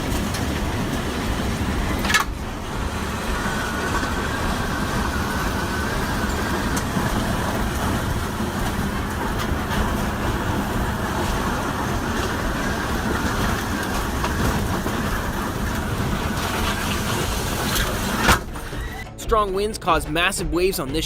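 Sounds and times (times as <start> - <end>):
wind buffeting microphone: 0.0 - 18.2.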